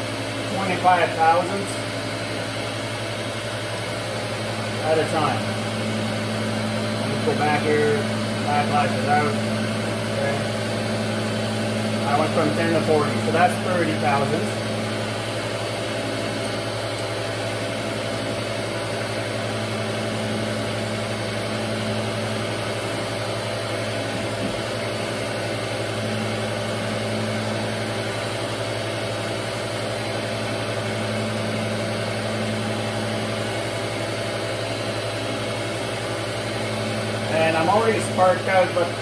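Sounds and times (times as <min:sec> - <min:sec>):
surface grinder humming: 0:03.5 - 0:39.0.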